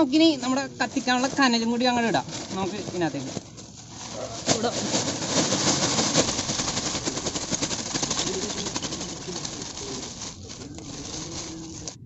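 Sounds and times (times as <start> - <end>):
charcoal pouring onto ground: 1.3 - 12.0.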